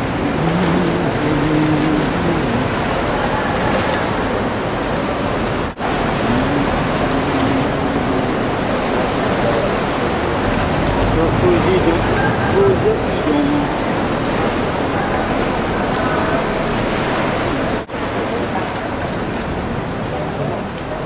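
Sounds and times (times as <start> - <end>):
faint voices: 0.0 - 21.0
sea water rushing around boat: 0.0 - 21.0.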